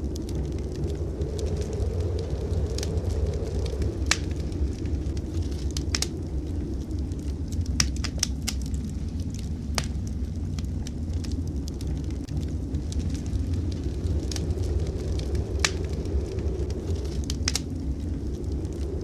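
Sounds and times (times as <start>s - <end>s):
steady low rumble: 0.0s - 19.0s
wood fire crackling: 0.0s - 19.0s
sharp pops of fire: 0.2s - 6.1s, 7.5s - 17.8s.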